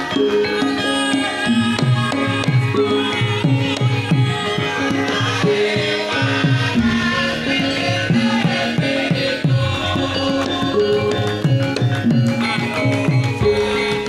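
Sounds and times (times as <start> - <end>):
hand drum strokes bending pitch: 0.0 - 14.0
struck metallophone notes: 0.0 - 14.0.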